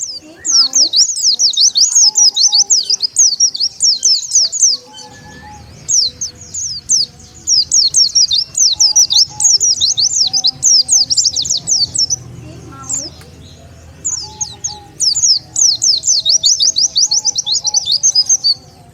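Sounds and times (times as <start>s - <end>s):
bird twittering chirps: 0.0s - 18.9s.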